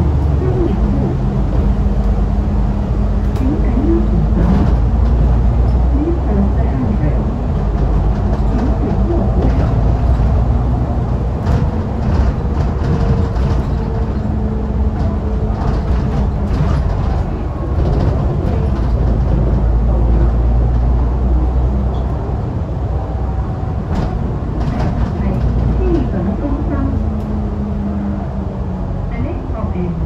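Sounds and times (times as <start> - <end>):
bus body rattling: 0.0 - 30.0
bus diesel engine droning: 0.0 - 30.0.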